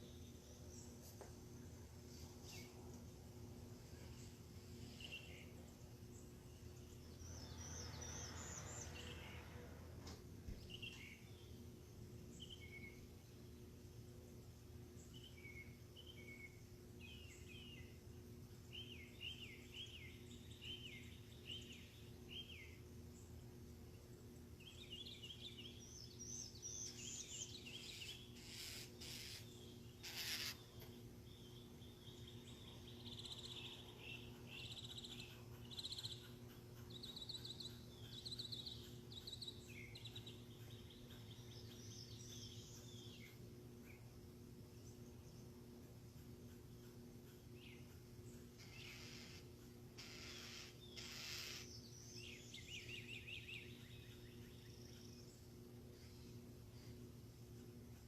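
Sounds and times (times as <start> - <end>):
birds chirping: 0.0 - 58.0
steady low hum: 0.0 - 58.0.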